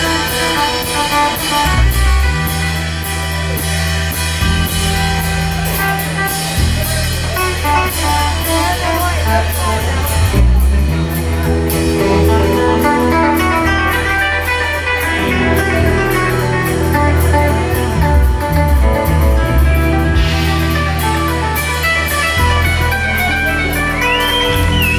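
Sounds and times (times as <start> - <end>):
bass guitar: 0.0 - 24.9
drum kit: 0.0 - 24.9
electric guitar lines: 0.0 - 24.9.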